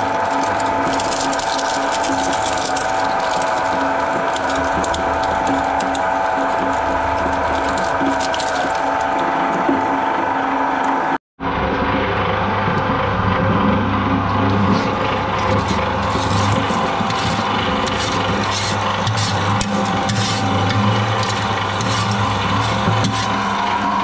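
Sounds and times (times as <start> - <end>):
shredder grinding: 0.0 - 24.0.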